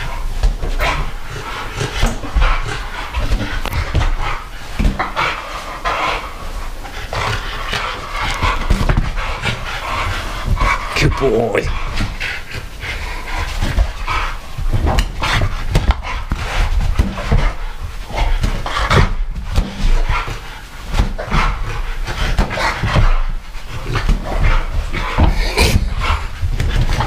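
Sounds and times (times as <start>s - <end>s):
dog panting hard: 0.0s - 27.0s.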